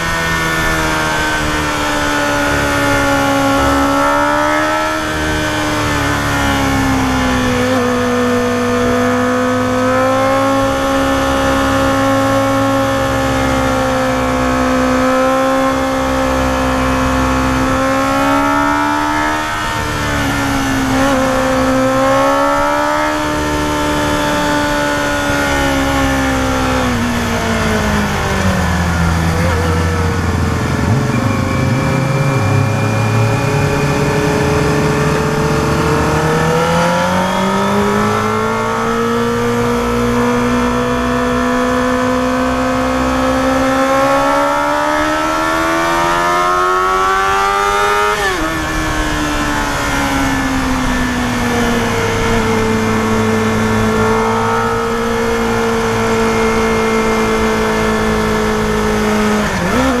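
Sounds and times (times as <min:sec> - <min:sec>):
motorcycle engine revving high: 0:00.0 - 1:00.0.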